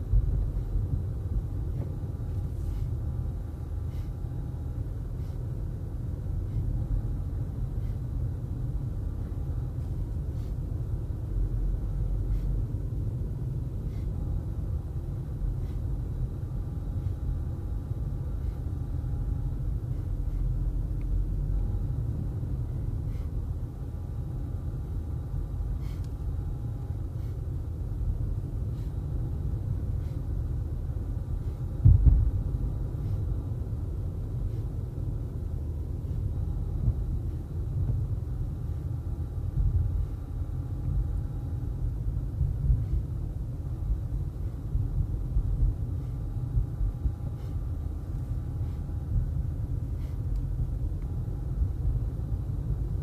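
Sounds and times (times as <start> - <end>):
car interior road rumble: 0.0 - 53.0.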